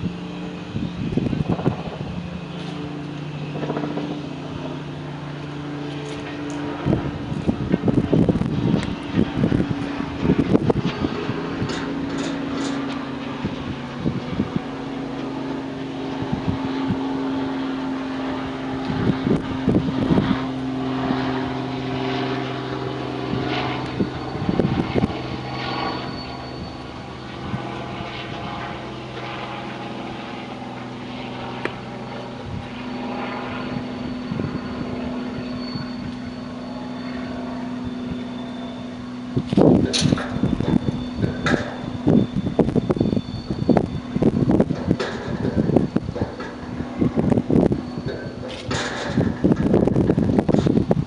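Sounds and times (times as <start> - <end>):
engine drone: 0.0 - 51.0.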